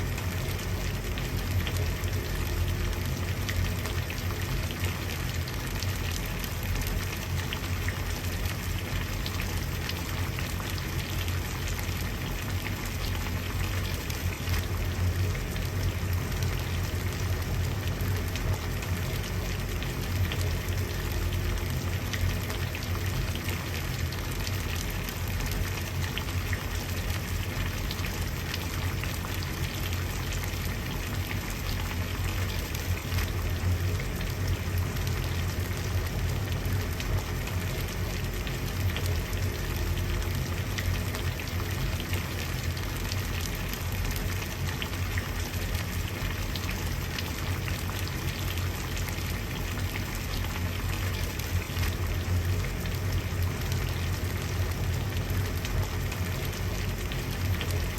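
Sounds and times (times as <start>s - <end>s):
water boiling and bubbling: 0.0s - 57.9s.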